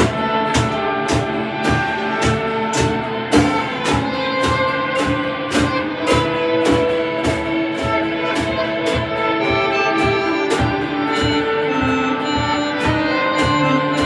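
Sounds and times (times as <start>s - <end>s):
drum kit steady beat: 0.0s - 14.0s
electric guitars ringing melody: 0.0s - 14.0s.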